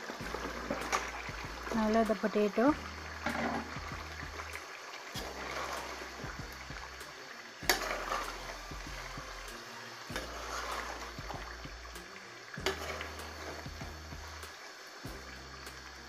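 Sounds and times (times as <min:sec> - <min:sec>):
curry bubbling in a pot: 0:00.0 - 0:16.0.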